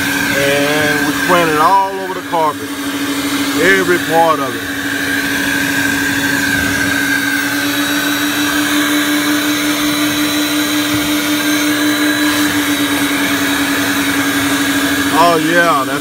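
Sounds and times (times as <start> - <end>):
carpet extraction machine running: 0.0 - 16.0.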